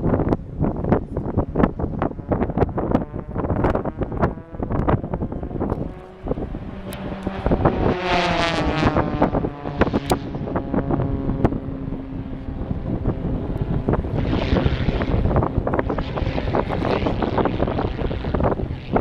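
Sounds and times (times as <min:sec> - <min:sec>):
aircraft engine droning: 0:00.0 - 0:19.0
wind buffeting microphone: 0:00.0 - 0:19.0.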